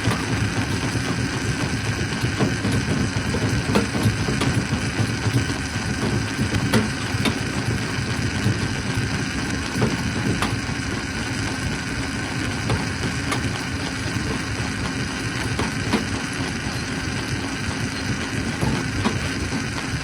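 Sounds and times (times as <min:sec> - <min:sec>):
stone crusher machine droning: 0:00.0 - 0:20.0.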